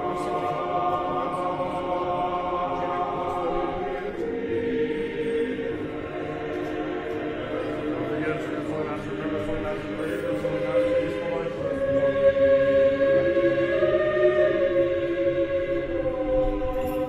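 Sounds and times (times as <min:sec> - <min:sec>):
mixed choir chanting unaccompanied: 0:00.0 - 0:17.0.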